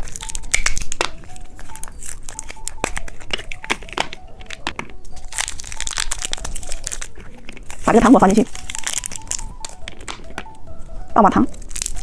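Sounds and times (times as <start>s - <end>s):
hard plastic pieces clicking: 0.0s - 12.0s
plastic wrapper crinkling and tearing: 0.0s - 12.0s.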